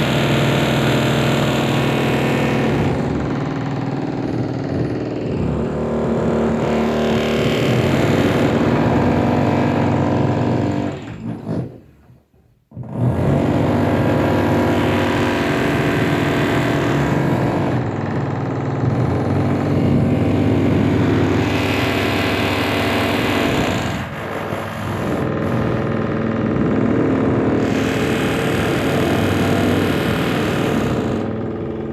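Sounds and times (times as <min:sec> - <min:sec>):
power tool running: 0:00.0 - 0:11.6, 0:12.8 - 0:31.9.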